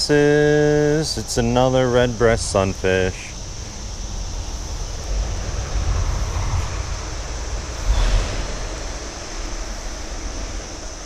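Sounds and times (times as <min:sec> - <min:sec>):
insects chirring: 0:00.0 - 0:11.0
wind rumbling on microphone: 0:00.0 - 0:11.0.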